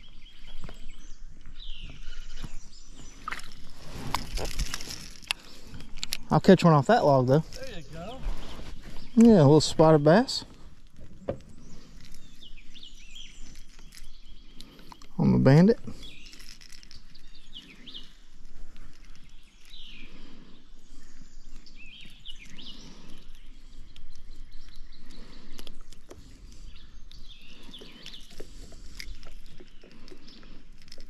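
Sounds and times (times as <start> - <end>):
outdoor background noise: 0.0 - 31.0
songbirds chirping: 0.0 - 31.0.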